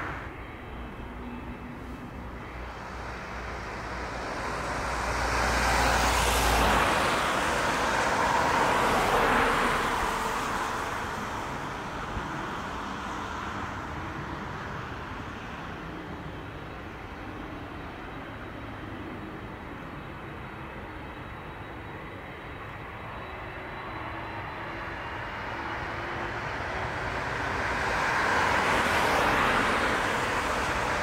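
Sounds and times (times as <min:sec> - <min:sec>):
jet airliner passing by: 0:00.0 - 0:31.0.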